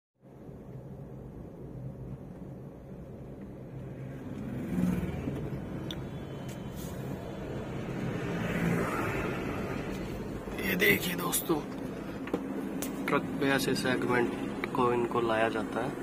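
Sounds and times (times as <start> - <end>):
car interior engine and road noise: 0.2 - 16.0
oncoming traffic passing: 0.2 - 16.0.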